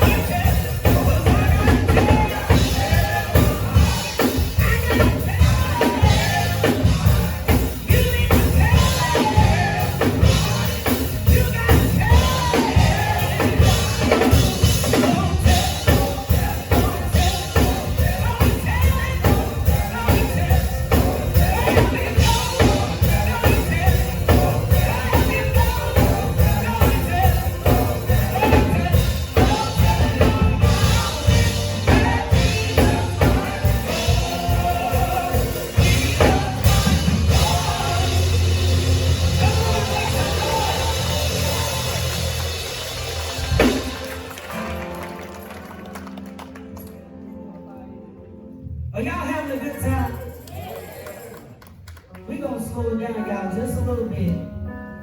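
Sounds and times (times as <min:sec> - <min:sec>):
drum kit beat: 0:00.0 - 0:45.2
live band music: 0:00.0 - 0:50.7.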